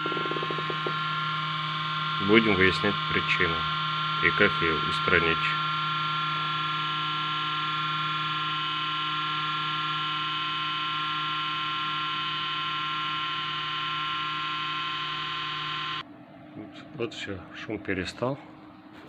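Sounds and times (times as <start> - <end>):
cooling fan humming with whine: 0.0 - 19.0.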